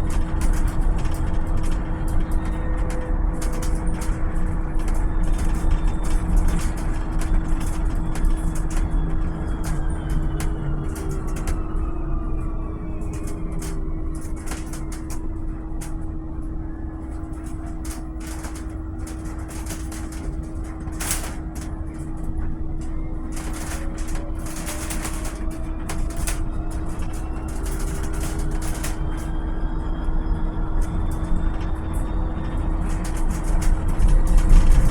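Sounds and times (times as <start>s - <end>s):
rattles and clicks: 0.0s - 34.9s
road rumble: 0.0s - 34.9s
steady hum: 0.0s - 34.9s.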